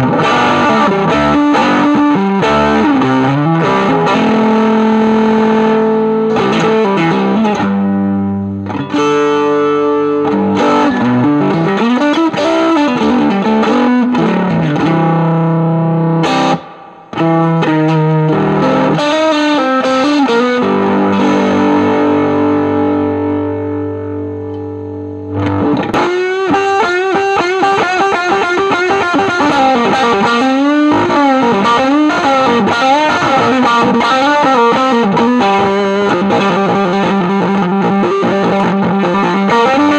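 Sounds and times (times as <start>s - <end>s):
distorted fuzz electric guitar: 0.0s - 39.9s.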